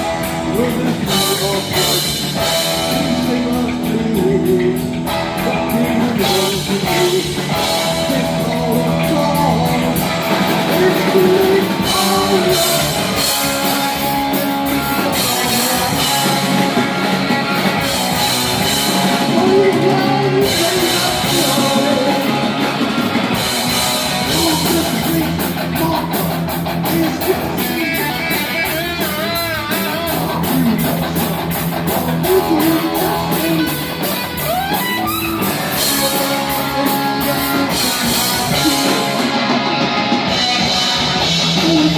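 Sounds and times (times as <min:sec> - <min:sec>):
heavy metal band playing: 0:00.0 - 0:41.9.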